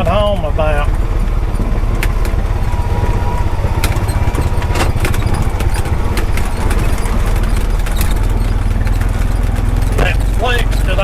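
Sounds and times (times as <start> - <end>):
engine running while driving: 0.0 - 11.0.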